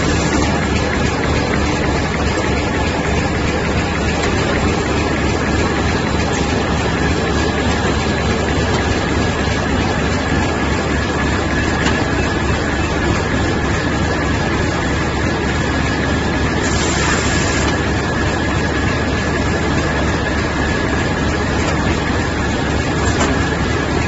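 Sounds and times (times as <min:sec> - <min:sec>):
high machine whine: 0:00.0 - 0:24.0
machine mechanical hum: 0:00.0 - 0:24.0.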